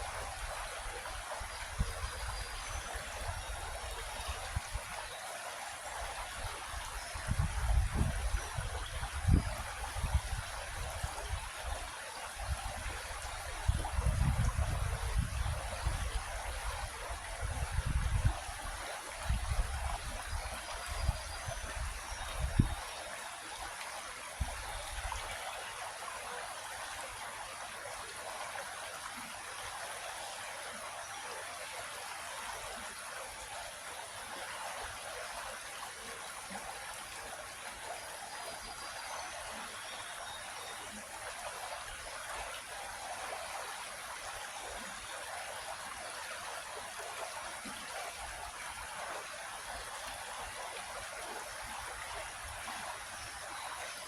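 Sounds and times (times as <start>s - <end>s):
creek water rushing and trickling: 0.0s - 54.0s.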